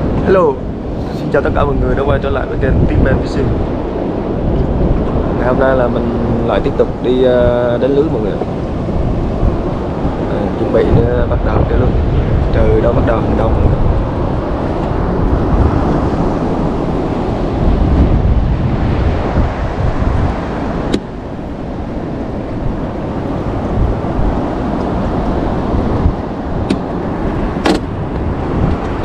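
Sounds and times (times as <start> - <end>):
water rushing past boat: 0.0 - 29.0
wind buffeting microphone: 0.0 - 29.0.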